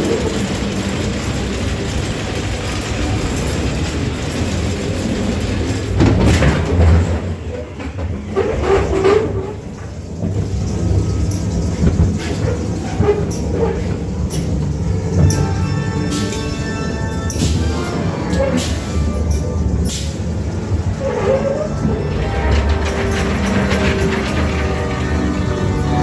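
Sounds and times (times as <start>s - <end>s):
ride cars rumbling on steel track: 0.0s - 26.0s
wheels clattering: 0.0s - 26.0s.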